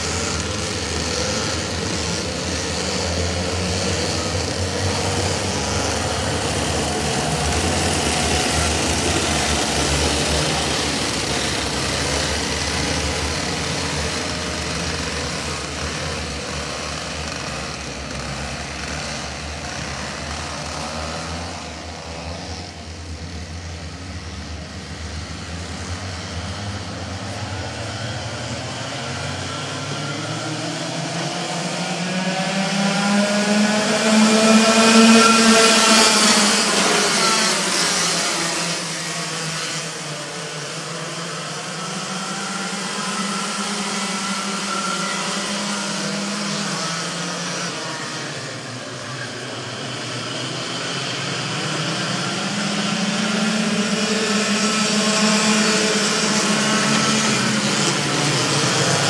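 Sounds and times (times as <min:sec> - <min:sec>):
racing kart engines buzzing: 0:00.0 - 0:59.0.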